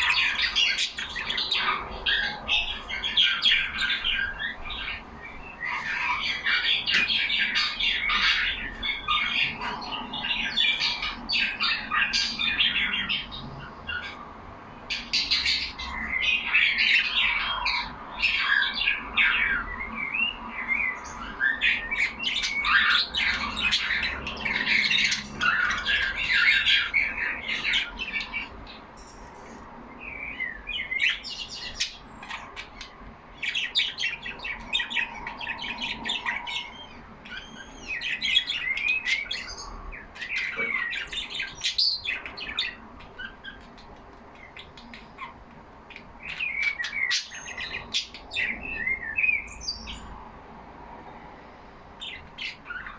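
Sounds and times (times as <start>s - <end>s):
budgerigars chattering: 0.0s - 50.2s.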